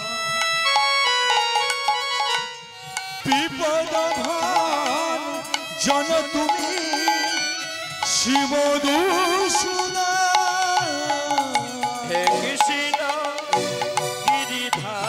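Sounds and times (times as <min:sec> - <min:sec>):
ornamented vocal melody: 0:00.0 - 0:15.0
hand drum strokes: 0:00.7 - 0:15.0.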